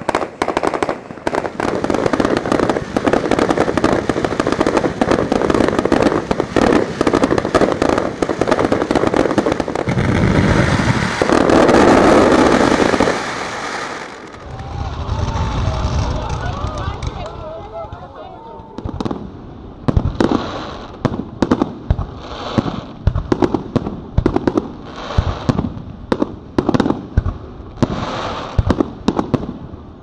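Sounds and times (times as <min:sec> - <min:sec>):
fireworks pops and bangs: 0:00.0 - 0:30.0
loud fireworks crackle: 0:00.0 - 0:30.0.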